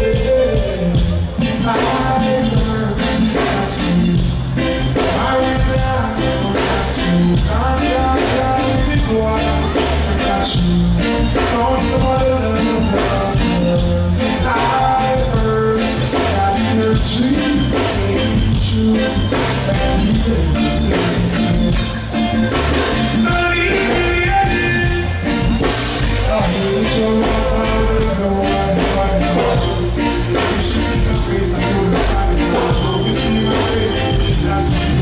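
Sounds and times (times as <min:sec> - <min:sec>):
bass and guitar: 0:00.0 - 0:35.0
drum kit beat: 0:00.0 - 0:35.0
person singing: 0:00.0 - 0:35.0.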